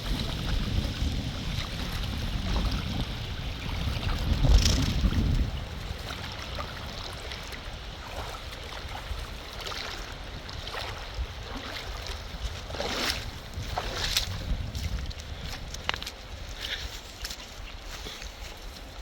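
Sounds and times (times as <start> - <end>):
river water flowing: 0.0 - 19.0
wind rumbling on microphone: 0.0 - 19.0.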